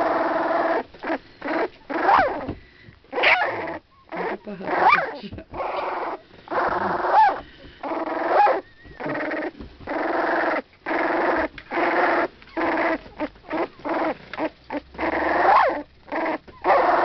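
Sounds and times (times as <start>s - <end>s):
puppy whining: 0.0s - 17.0s.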